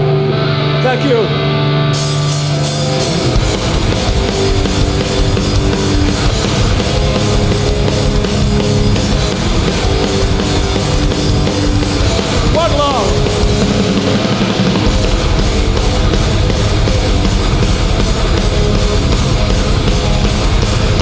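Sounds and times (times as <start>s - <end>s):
bass guitar: 0.0s - 21.0s
distorted electric guitars: 0.0s - 21.0s
drum kit pounding rhythm: 2.0s - 21.0s.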